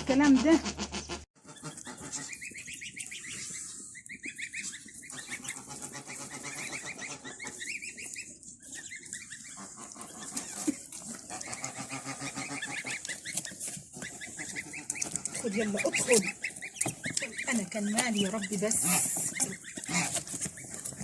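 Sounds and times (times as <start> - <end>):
ducks and geese calling: 0.0 - 21.0.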